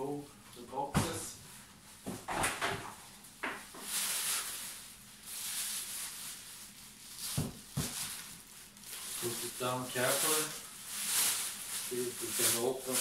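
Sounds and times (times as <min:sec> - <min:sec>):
cardboard and plastic rustling: 0:02.0 - 0:13.0.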